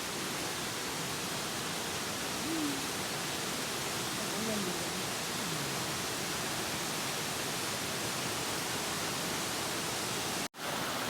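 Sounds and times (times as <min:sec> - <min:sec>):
waterfall rushing: 0:00.6 - 0:11.0.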